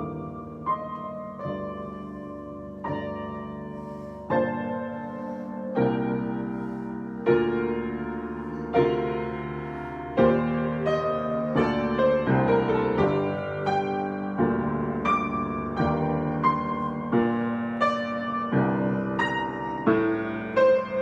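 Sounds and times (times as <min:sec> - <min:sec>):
solo piano improvisation: 0:00.0 - 0:21.0.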